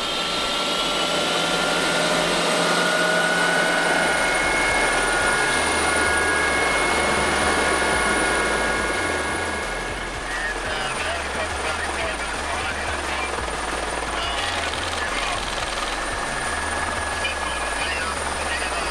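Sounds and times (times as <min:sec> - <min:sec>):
helicopter engine and rotor: 0:00.0 - 0:18.9
high turbine whine: 0:00.0 - 0:18.9.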